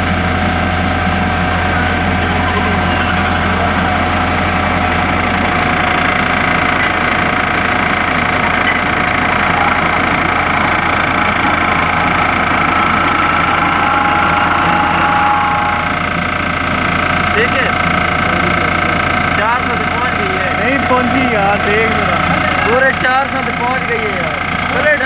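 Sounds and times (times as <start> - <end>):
hydraulic power pack humming: 0.0 - 25.0.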